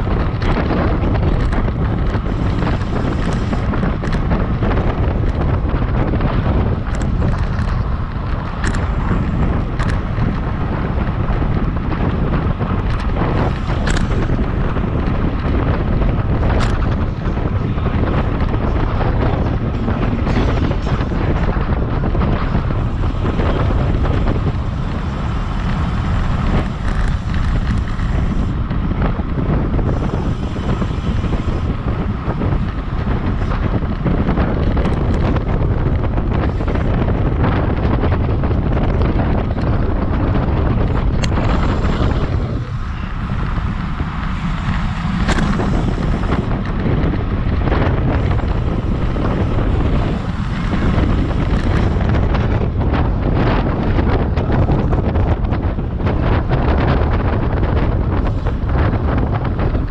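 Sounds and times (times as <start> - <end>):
wind roaring over microphone: 0.0 - 59.9.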